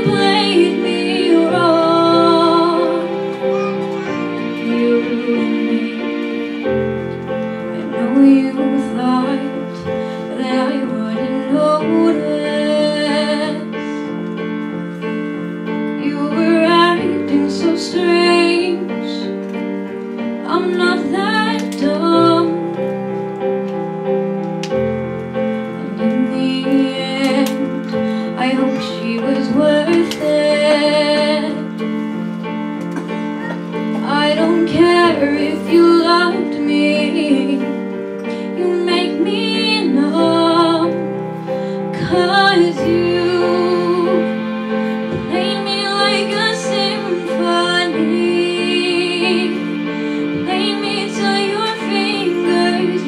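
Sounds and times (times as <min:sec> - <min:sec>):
woman singing into microphone: 0:00.0 - 0:07.0, 0:07.6 - 0:14.1, 0:16.0 - 0:19.4, 0:20.4 - 0:23.2, 0:25.8 - 0:31.8, 0:33.6 - 0:53.0
piano held chords: 0:00.0 - 0:53.0.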